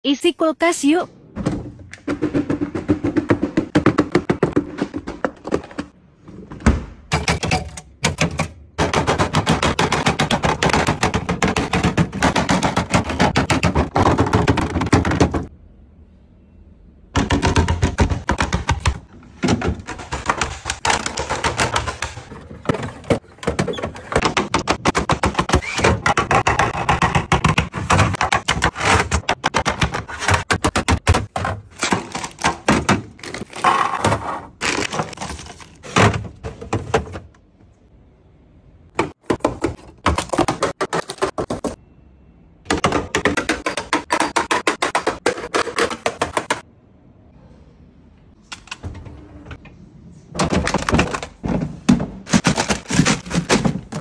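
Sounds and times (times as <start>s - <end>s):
plastic containers clacking: 1.4s - 6.0s, 7.1s - 15.5s, 17.2s - 37.5s, 38.9s - 41.8s, 42.7s - 46.6s, 50.4s - 54.0s.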